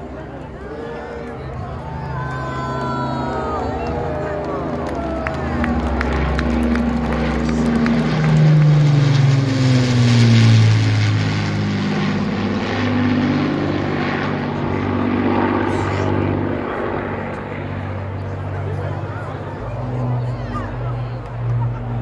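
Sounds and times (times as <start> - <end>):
propeller plane engines droning: 0.0 - 22.0.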